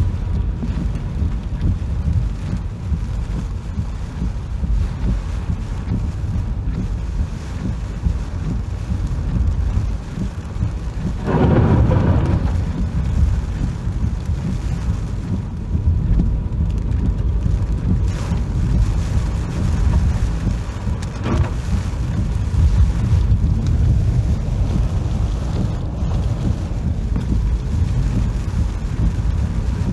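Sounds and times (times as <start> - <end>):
rain: 0.0 - 29.9
wind buffeting microphone: 0.0 - 29.9.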